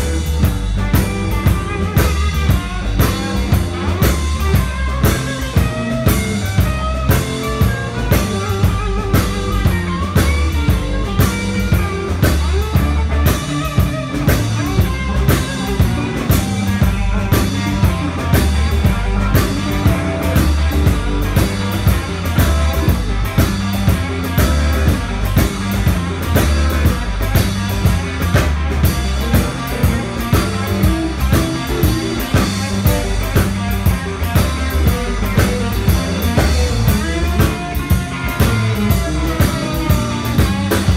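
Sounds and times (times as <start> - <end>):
drum kit beat: 0.0 - 40.9
electric bass: 0.0 - 40.9
electric guitars: 0.0 - 40.9.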